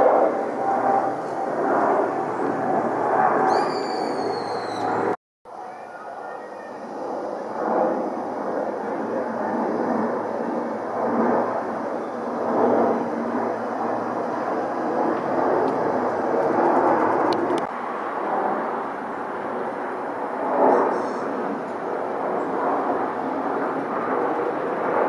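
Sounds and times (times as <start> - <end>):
jet engines rushing overhead: 0.0 - 25.0.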